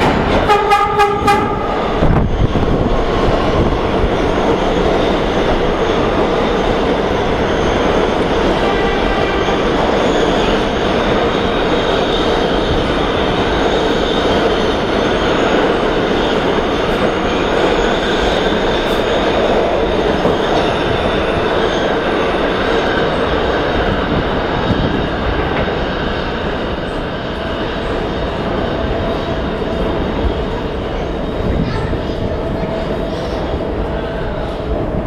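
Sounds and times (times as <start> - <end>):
train wheels on rails: 0.0 - 35.0.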